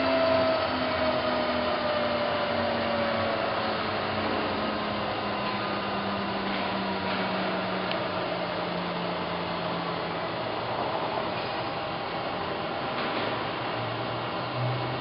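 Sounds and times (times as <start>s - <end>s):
milling machine spindle whirring: 0.0s - 15.0s.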